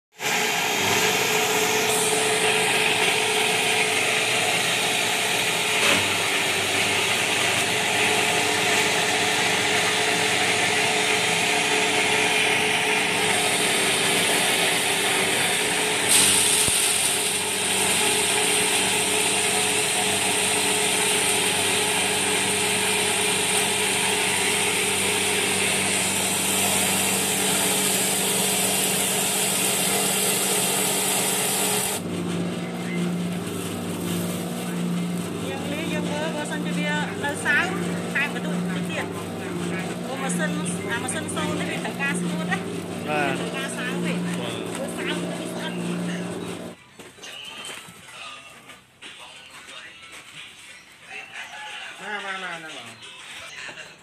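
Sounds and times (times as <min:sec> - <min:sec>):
grain hissing through machine: 0:00.2 - 0:46.8
grinding machine motor hum: 0:00.2 - 0:46.8.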